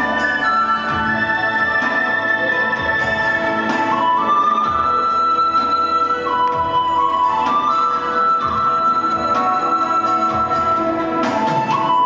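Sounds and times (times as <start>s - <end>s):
flute-like melody: 0.0s - 12.0s.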